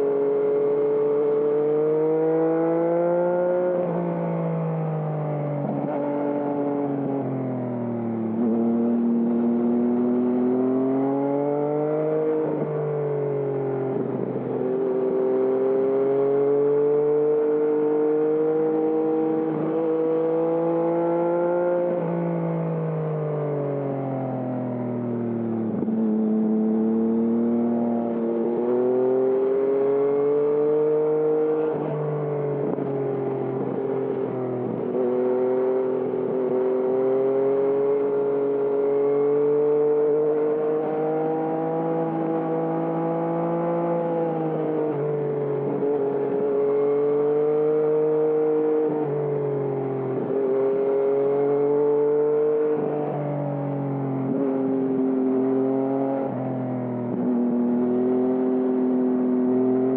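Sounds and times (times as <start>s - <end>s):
motorcycle engine revving: 0.0s - 7.3s, 8.0s - 22.6s, 25.3s - 49.2s, 49.8s - 56.4s.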